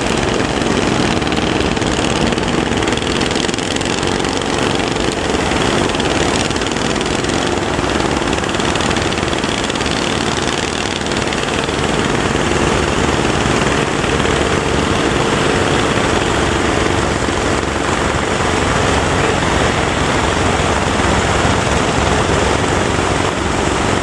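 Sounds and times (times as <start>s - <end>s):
boat engine running: 0.0s - 24.0s
heavy surf rushing: 0.0s - 24.0s.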